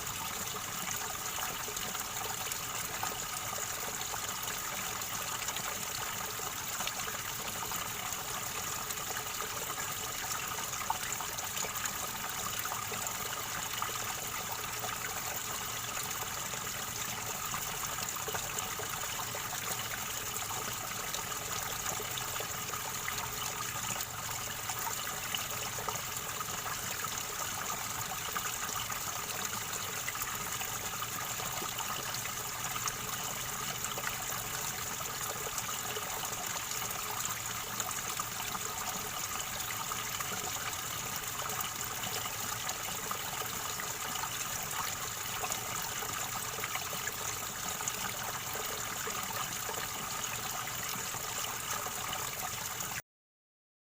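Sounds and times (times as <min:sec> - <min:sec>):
river water gurgling over stones: 0:00.0 - 0:53.0.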